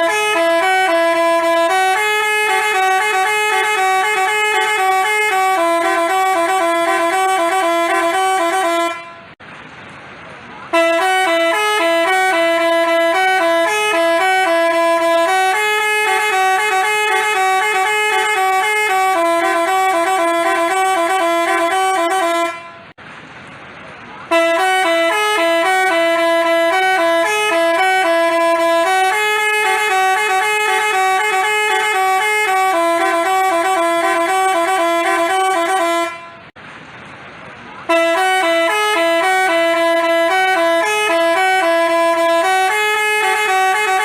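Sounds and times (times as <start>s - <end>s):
multi-tone bus horn tune: 0.0s - 9.4s, 10.6s - 23.0s, 24.2s - 36.6s, 37.8s - 44.0s.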